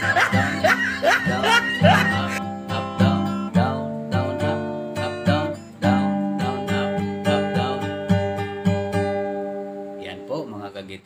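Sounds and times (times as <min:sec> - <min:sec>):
acoustic guitar strumming: 0:00.0 - 0:10.8.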